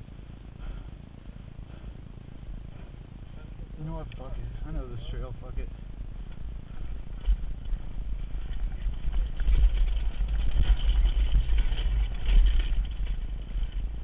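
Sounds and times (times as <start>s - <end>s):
wind buffeting microphone: 0.0s - 14.0s
bike rattling and knocking: 1.6s - 14.0s.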